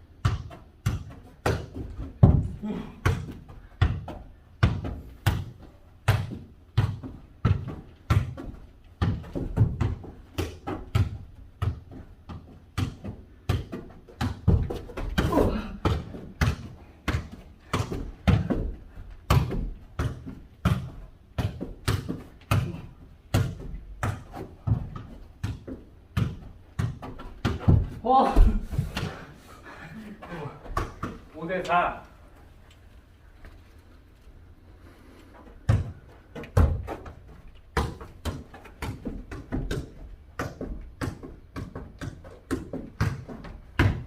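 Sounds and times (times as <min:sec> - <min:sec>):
ball thuds echoing in a room: 0:00.0 - 0:32.1, 0:34.8 - 0:44.0.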